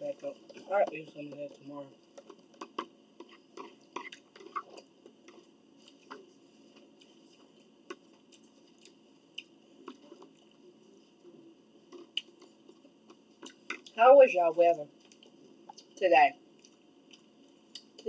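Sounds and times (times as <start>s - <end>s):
person chewing food: 2.0s - 14.0s, 14.9s - 18.0s.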